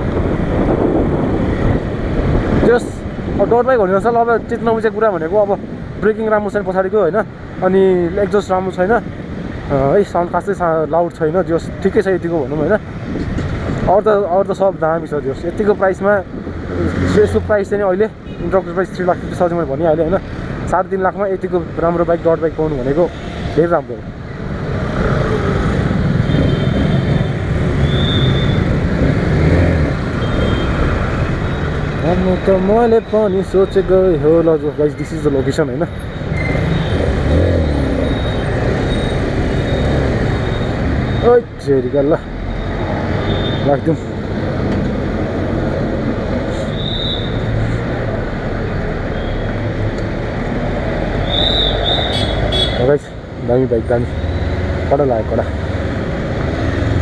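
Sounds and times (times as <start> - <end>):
traffic rumble: 0.0 - 57.0.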